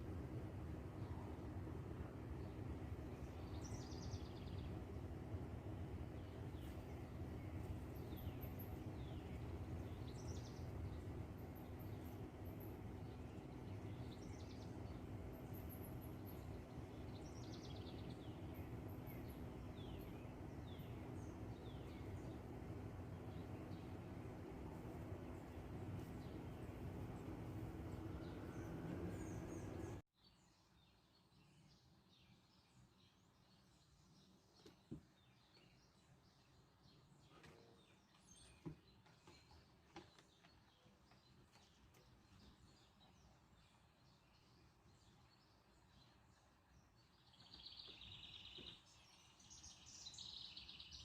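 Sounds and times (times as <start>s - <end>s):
faint birdsong: 0.0s - 51.0s
low background noise: 0.0s - 51.0s.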